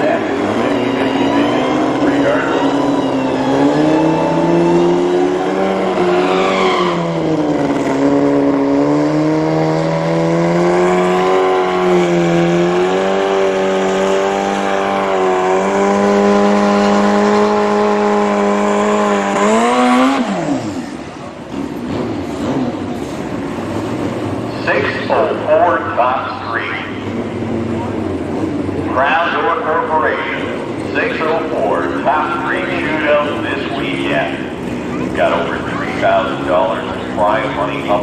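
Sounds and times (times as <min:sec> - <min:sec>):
racing engine passing by: 0:00.0 - 0:38.0.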